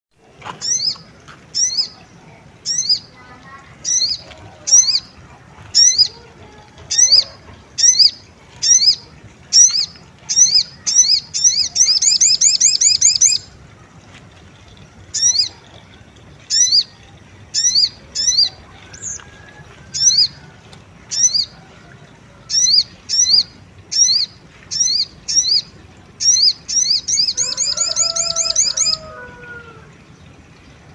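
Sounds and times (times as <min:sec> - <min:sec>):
bird chirping and trilling: 0:00.6 - 0:13.6, 0:15.1 - 0:21.6, 0:22.4 - 0:29.4.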